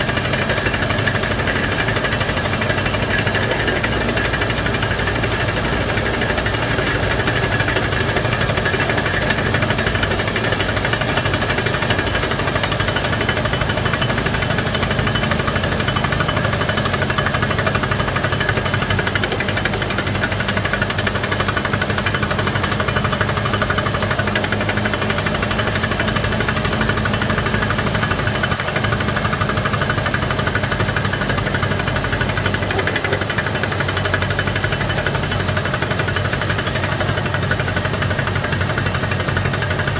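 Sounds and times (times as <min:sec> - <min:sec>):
hydraulic drill hammering: 0:00.0 - 0:39.9.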